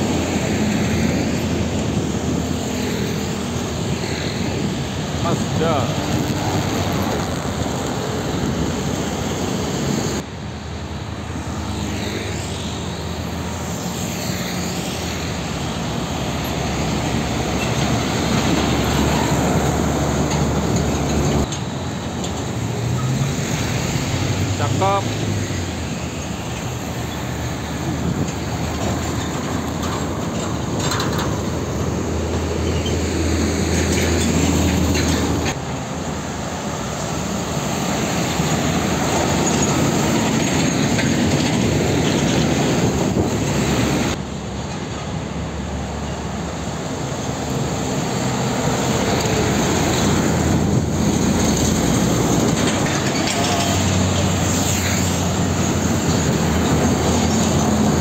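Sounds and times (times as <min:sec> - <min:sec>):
heavy trucks passing: 0:00.0 - 0:58.0.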